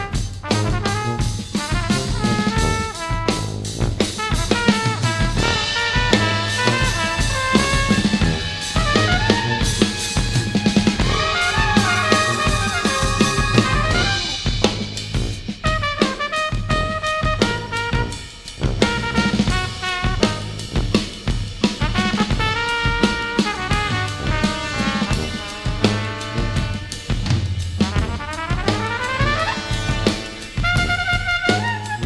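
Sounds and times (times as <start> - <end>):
drum kit playing busily: 0.0 - 32.0
jazz brass ensemble: 0.0 - 32.0.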